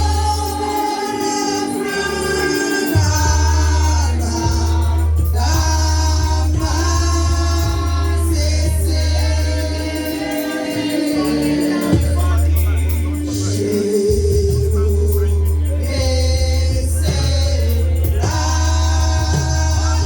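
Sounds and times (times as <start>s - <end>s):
choir singing gospel: 0.0s - 20.0s
steady bass line: 0.0s - 20.0s.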